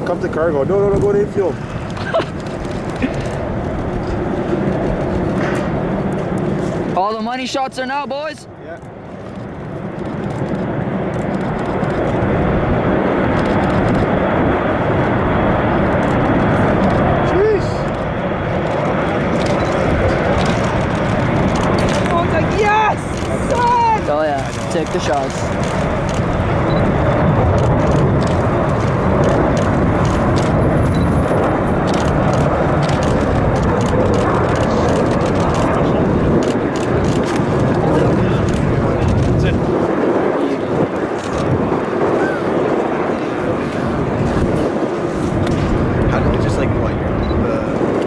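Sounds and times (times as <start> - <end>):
faint high engine whine: 0.0 - 48.0
jet engines rushing: 0.0 - 48.0.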